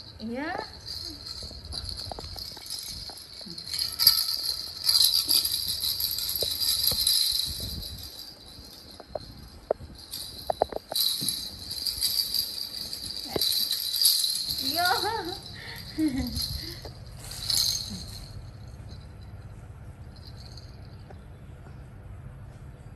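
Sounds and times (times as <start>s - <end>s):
baby rattle jingling: 0.0s - 19.3s, 20.1s - 21.0s.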